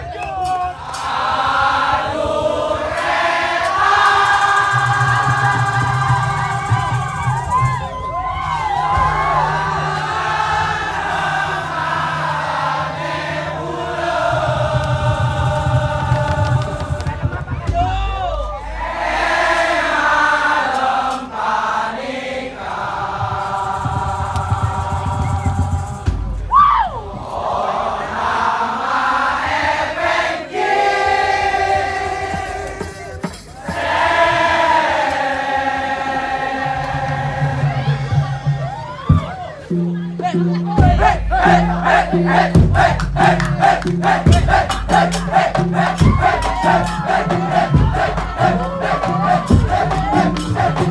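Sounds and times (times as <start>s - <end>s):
percussion ensemble playing: 0.0s - 50.9s
voices chanting together: 0.0s - 50.9s
low drum beats: 1.1s - 20.3s, 22.8s - 27.7s, 30.9s - 50.9s.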